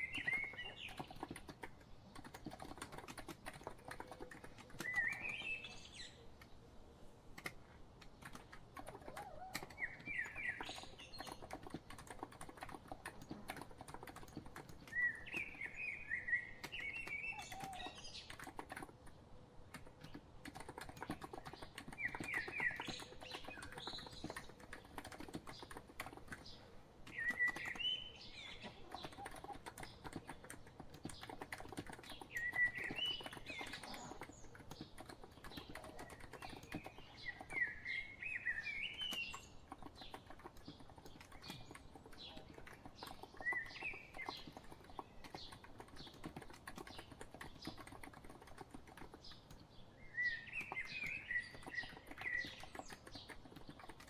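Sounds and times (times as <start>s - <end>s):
keyboard typing clicks: 0.0s - 6.5s, 7.4s - 49.7s, 50.3s - 54.0s
songbird chirping: 0.0s - 54.0s.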